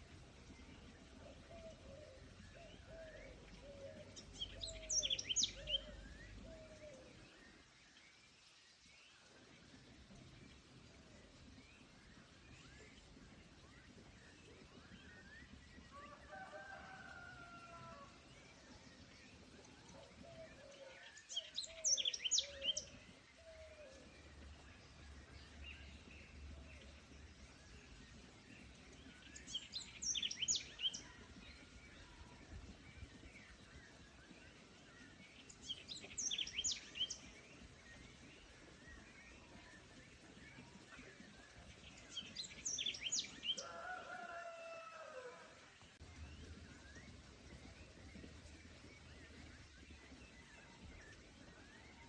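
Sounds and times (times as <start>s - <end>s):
faint background hiss: 0.0s - 52.0s.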